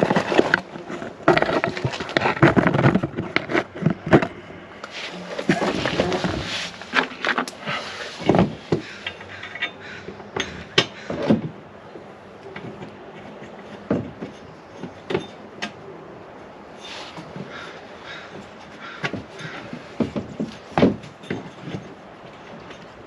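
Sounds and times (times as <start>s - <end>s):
hand tools clanking on metal: 0.0s - 23.0s.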